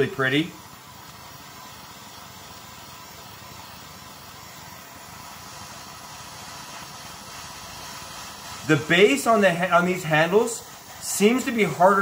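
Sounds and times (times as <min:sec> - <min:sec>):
blowtorch flame hissing: 0:00.0 - 0:12.0.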